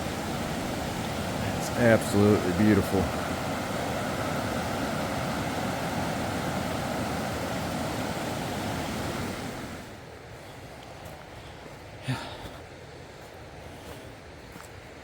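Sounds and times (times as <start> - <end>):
rushing water: 0.0 - 12.6.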